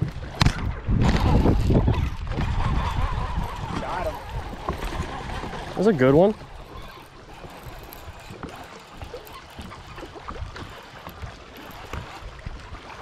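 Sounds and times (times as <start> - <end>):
small knocks and clicks on boat: 0.0 - 2.3, 3.7 - 13.0
water lapping around boat: 0.0 - 13.0.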